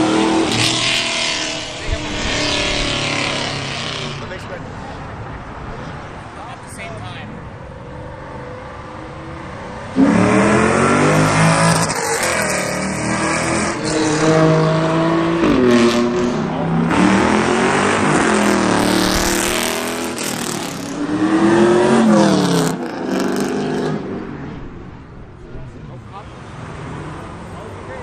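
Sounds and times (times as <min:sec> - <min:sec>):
car engine revving: 0:00.0 - 0:25.7.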